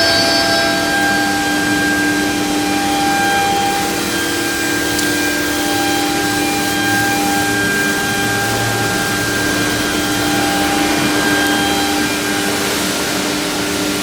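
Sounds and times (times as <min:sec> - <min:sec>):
router spindle whine: 0:00.0 - 0:14.0
strong even hiss: 0:00.0 - 0:14.0.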